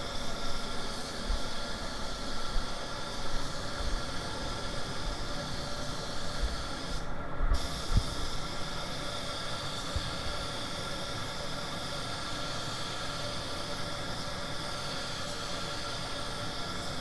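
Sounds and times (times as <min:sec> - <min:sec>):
paint spray gun hissing: 0:00.0 - 0:17.0.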